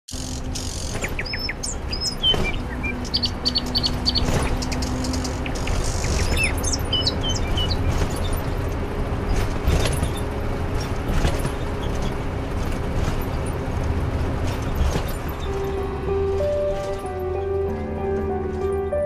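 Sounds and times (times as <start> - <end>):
birds chirping: 0.1 - 17.9
low traffic rumble: 0.1 - 19.0.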